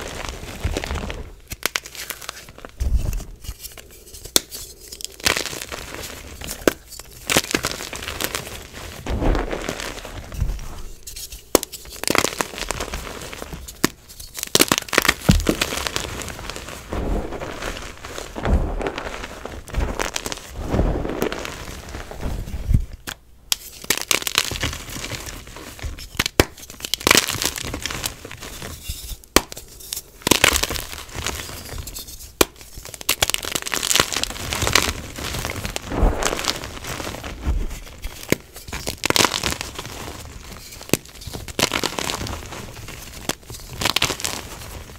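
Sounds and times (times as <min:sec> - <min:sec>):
chalk crunching and crumbling: 0:00.0 - 0:44.9.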